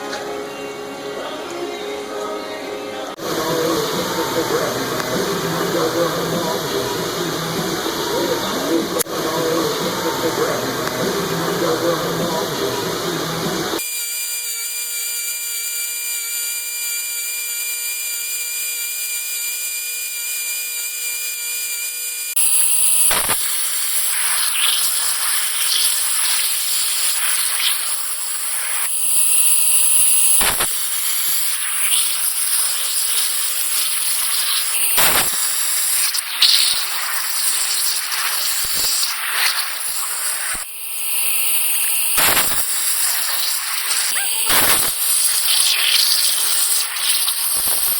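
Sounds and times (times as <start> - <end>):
metal cutting and grinding: 3.1 - 47.9
power tool whining: 3.1 - 47.9.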